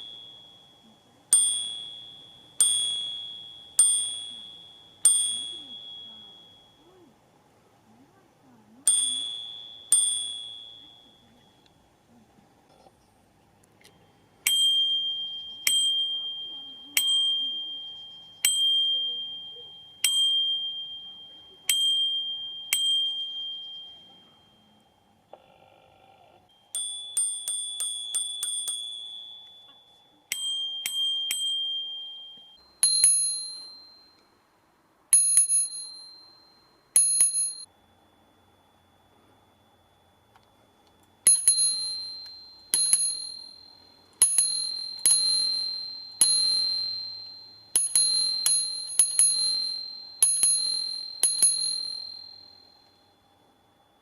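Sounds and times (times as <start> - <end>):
bicycle bell dinging: 0.0 - 7.1, 8.8 - 11.9, 13.9 - 25.3, 26.5 - 34.4, 35.1 - 54.0.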